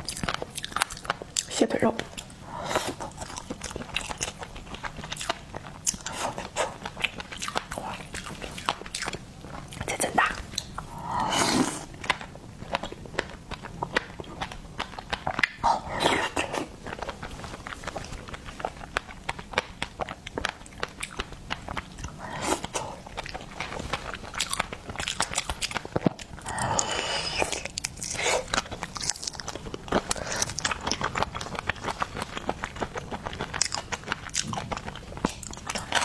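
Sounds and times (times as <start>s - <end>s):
small eating clicks: 0.0s - 2.3s, 3.0s - 10.8s, 11.9s - 36.0s
biting and wet chewing: 0.0s - 36.0s.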